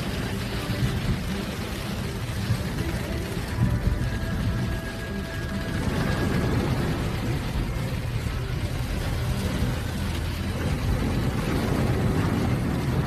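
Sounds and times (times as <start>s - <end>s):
car engine: 0.0s - 13.0s
rain hitting the windscreen: 0.0s - 13.0s
tyres on a wet road: 0.0s - 13.0s.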